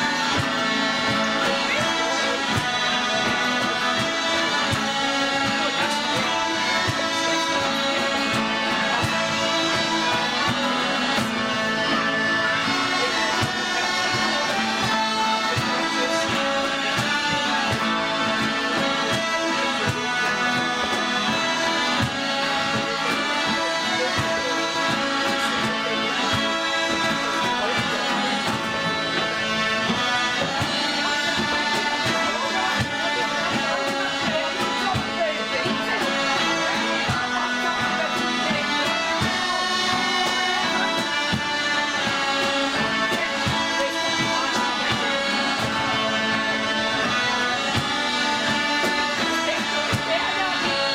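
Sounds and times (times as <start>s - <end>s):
bagpipe drones: 0.0s - 50.9s
smallpipes playing a tune: 0.0s - 50.9s.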